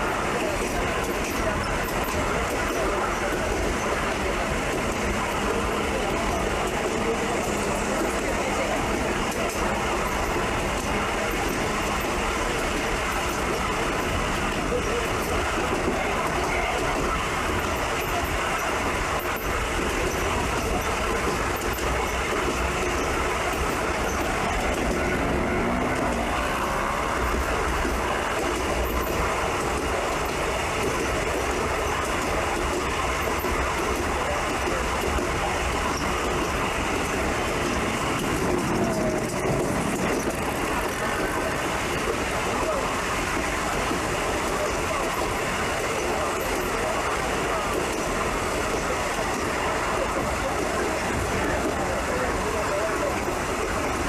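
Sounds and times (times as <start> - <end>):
passenger train running on track: 0.0 - 54.0.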